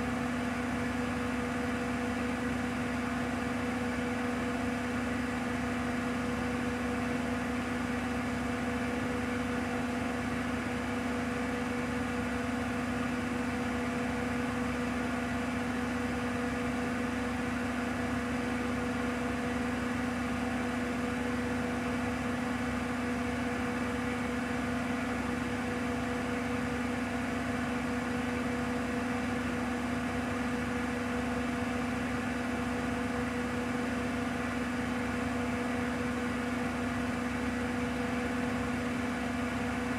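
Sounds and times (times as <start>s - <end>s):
washing machine motor hum and whine: 0.0s - 39.9s.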